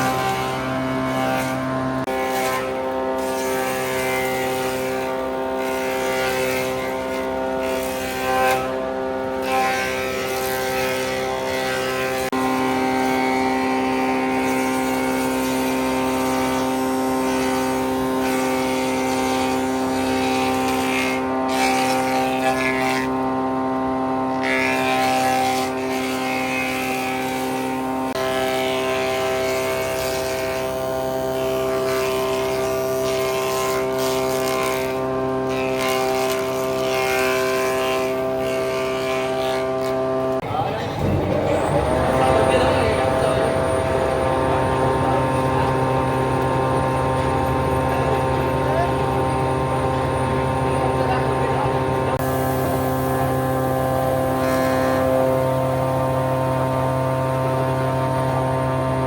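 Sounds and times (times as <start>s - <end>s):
woodworking machine motor humming: 0.0s - 59.0s.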